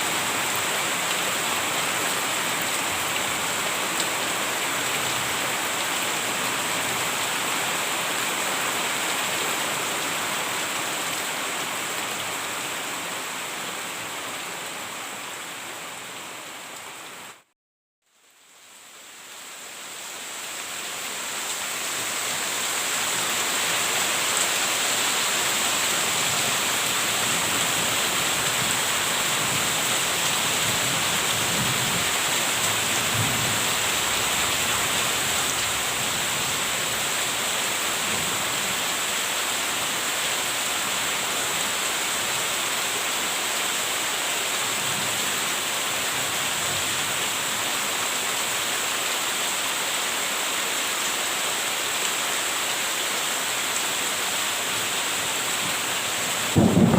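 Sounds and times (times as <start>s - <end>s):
heavy rain: 0.0s - 17.5s, 18.1s - 56.9s.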